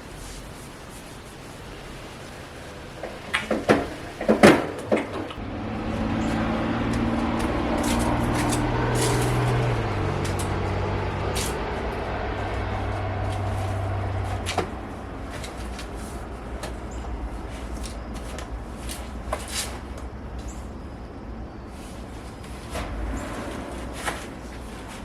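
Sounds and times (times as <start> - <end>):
low machine hum: 4.9 - 25.0.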